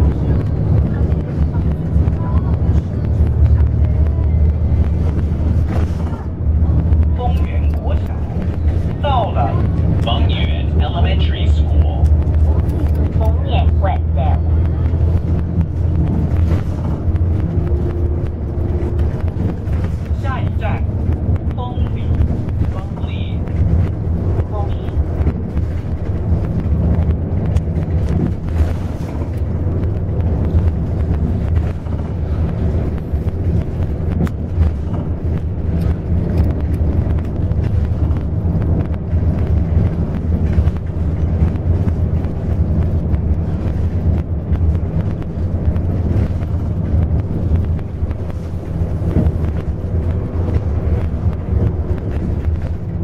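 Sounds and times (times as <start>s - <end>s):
bus engine and road noise: 0.0s - 53.0s.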